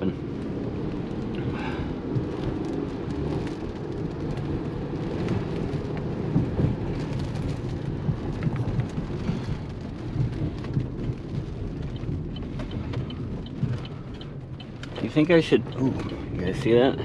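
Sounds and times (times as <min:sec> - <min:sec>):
low thunder rumble: 0:00.0 - 0:14.6
rain falling: 0:00.0 - 0:17.0
raindrop ticks: 0:00.0 - 0:17.0.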